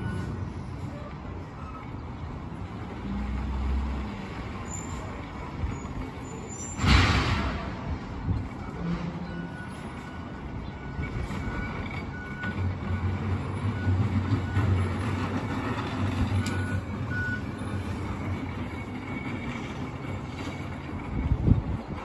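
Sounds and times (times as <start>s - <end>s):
garbage truck engine rumble: 0.0s - 22.0s.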